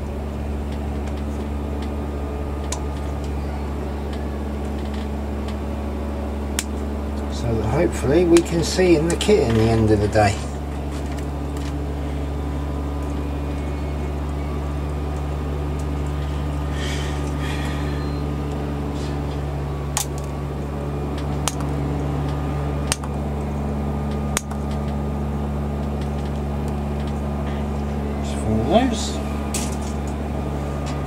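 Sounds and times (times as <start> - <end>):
low machine drone: 0.0 - 31.0.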